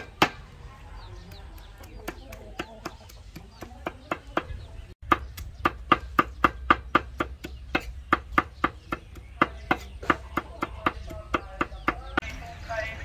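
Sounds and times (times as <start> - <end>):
cleaver chopping on wooden board: 1.6 - 12.2.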